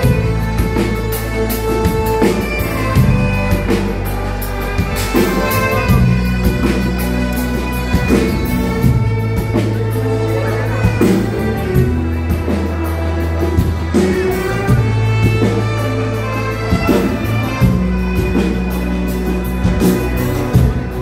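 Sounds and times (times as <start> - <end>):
drums: 0.0 - 21.0
low bass notes: 0.0 - 21.0
violin playing: 0.0 - 21.0.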